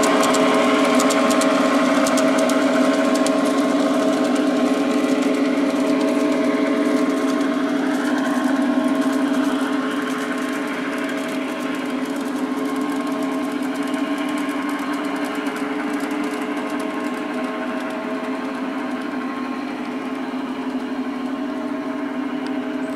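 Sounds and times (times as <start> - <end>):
model train electric whirring hum: 0.0 - 22.9.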